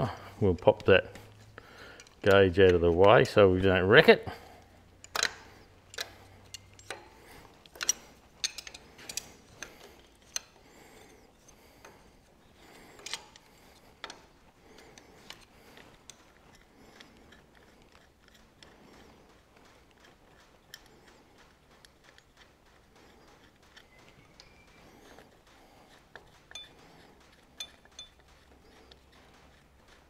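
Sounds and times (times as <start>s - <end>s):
metallic clicks: 1.8s - 3.8s, 4.6s - 10.6s, 12.6s - 30.0s.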